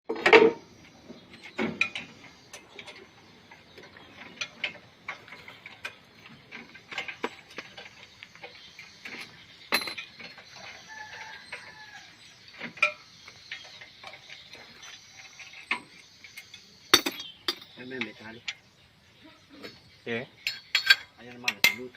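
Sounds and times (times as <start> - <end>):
hand tools clinking on metal: 1.4 - 18.6, 20.4 - 21.9.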